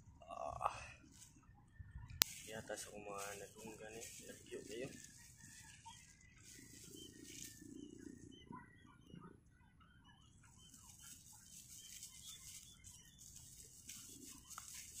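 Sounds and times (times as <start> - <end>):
chickens clucking: 1.1 - 15.0.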